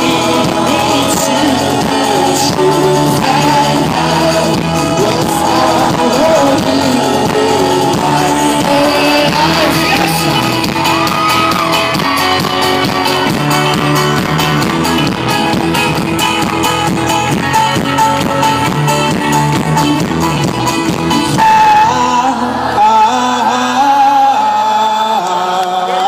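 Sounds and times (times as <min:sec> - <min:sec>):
folk-rock band playing loudly: 0:00.0 - 0:26.0.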